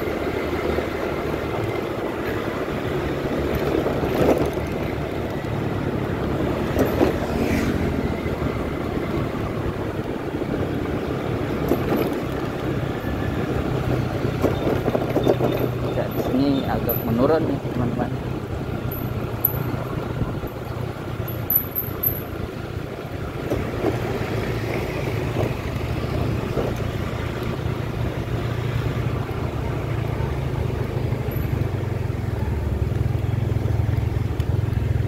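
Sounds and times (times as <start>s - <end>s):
road and wind noise: 0.0s - 35.0s
scooter engine droning: 0.0s - 35.0s.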